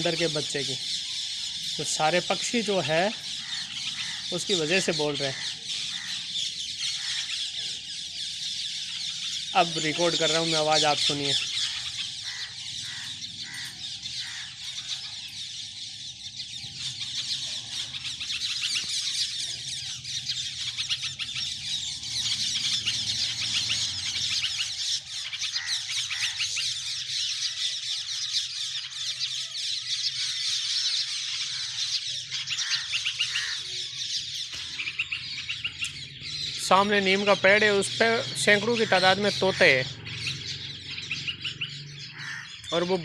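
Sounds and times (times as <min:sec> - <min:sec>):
flock of parrots calling: 0:00.0 - 0:43.0
other birds: 0:00.0 - 0:43.0.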